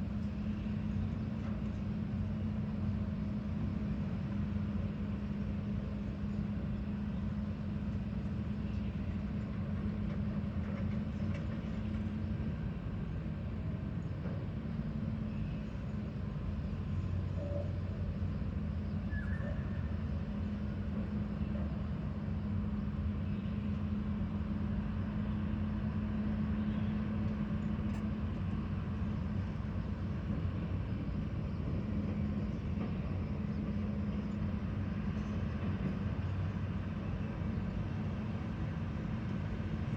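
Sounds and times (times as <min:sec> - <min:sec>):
heavy machine engine humming: 0:00.0 - 0:39.9.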